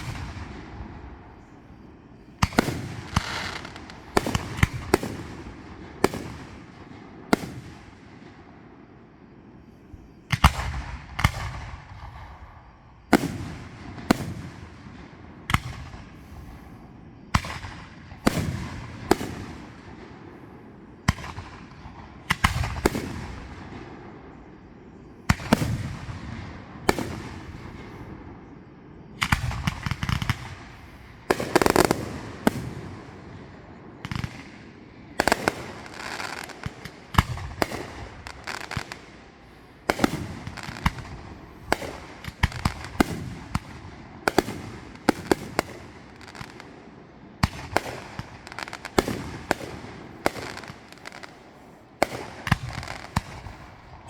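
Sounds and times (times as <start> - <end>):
crackling firework bangs: 0.0 - 8.8, 10.2 - 24.7, 25.3 - 28.5, 29.1 - 54.0
fireworks bursting: 0.0 - 8.8, 10.0 - 24.7, 25.3 - 54.0.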